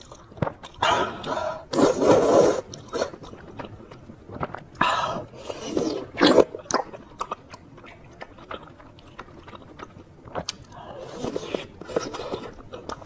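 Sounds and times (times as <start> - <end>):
person chewing noodles: 0.0 - 13.0.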